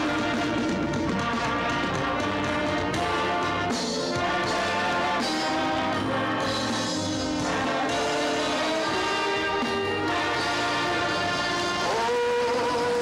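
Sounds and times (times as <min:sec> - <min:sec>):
horn section playing melody: 0:00.0 - 0:13.0.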